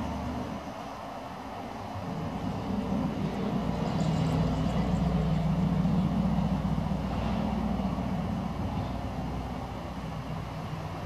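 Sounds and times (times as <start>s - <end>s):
passing vehicle engine drone: 0.0s - 11.0s.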